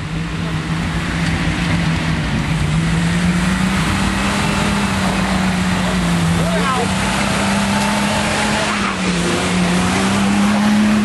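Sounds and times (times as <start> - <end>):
constant rushing noise: 0.0 - 11.0
engine running at high revs: 0.0 - 11.0.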